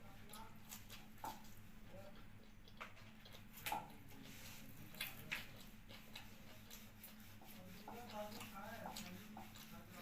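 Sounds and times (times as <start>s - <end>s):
wet chewing smacks: 0.0s - 10.0s.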